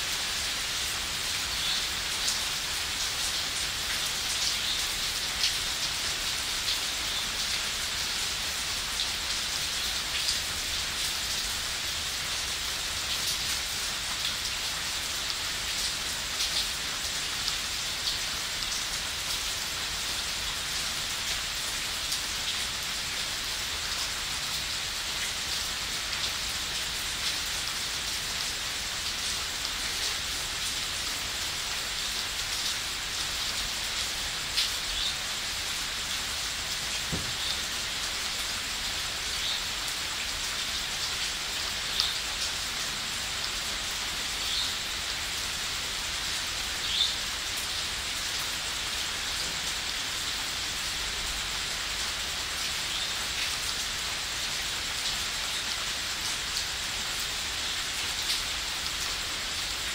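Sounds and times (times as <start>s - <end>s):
heavy rain on leaves: 0.0s - 59.9s.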